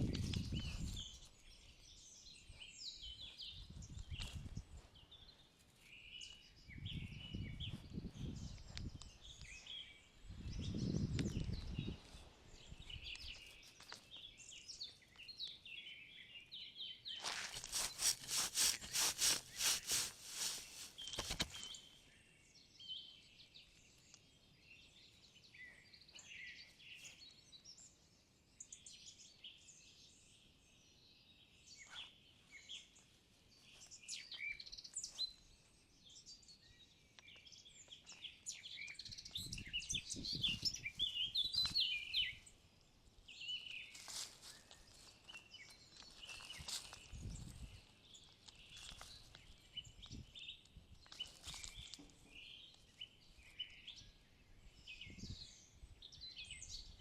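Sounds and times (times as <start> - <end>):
birds singing and chirping: 0.0 - 27.9, 28.6 - 57.0.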